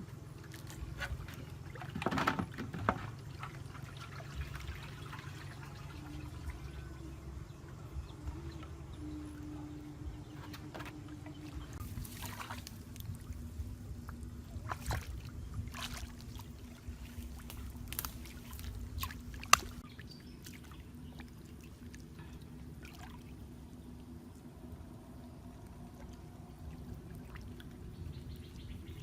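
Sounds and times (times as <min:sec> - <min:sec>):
faint low hum: 0:00.0 - 0:29.0
water splashing and trickling: 0:00.0 - 0:29.0.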